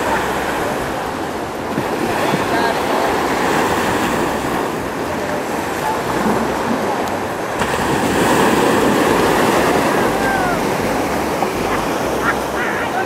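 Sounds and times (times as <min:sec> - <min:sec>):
small waves breaking on sand: 0:00.0 - 0:13.0
wind rumbling on microphone: 0:00.0 - 0:13.0.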